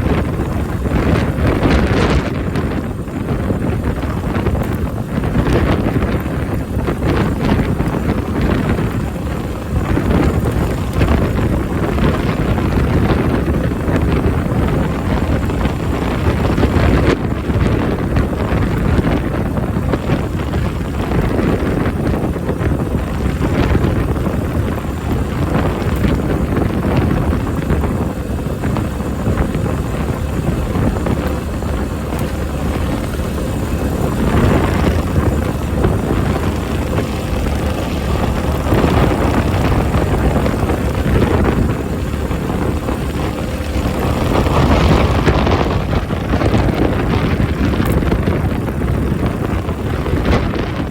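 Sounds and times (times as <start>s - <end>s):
motorcycle engine running: 0.0s - 50.9s
wind buffeting microphone: 0.0s - 50.9s.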